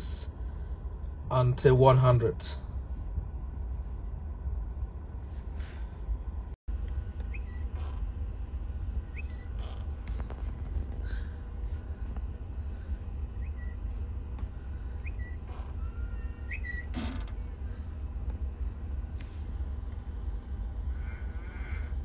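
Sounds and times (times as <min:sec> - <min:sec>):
low car cabin hum: 0:00.0 - 0:22.0.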